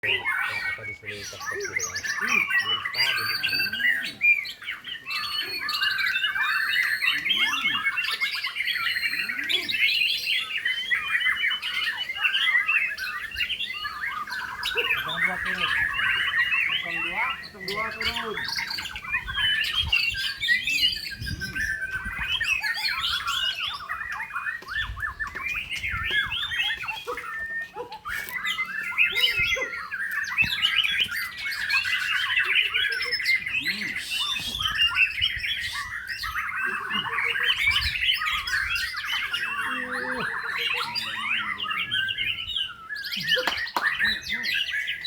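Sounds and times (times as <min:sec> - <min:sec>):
bird singing rapid trills: 0:00.0 - 0:45.0.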